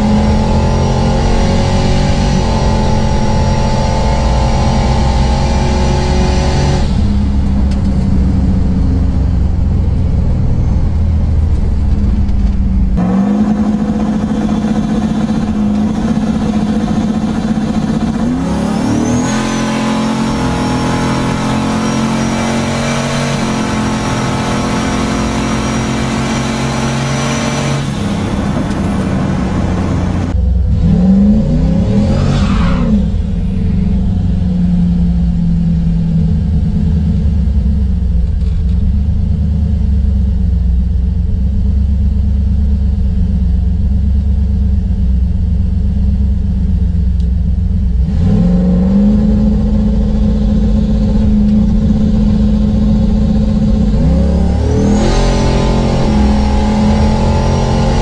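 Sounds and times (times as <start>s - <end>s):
engine running and revving: 0.0s - 58.0s.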